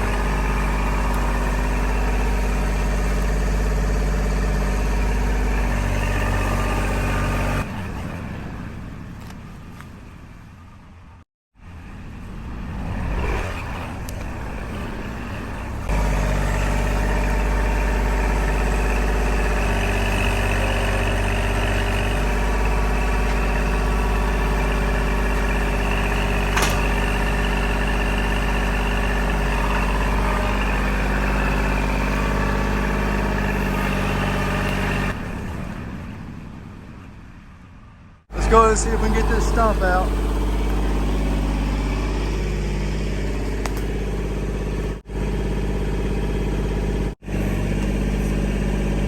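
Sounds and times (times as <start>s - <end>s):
tractor diesel engine running: 0.0s - 12.9s, 13.9s - 49.0s.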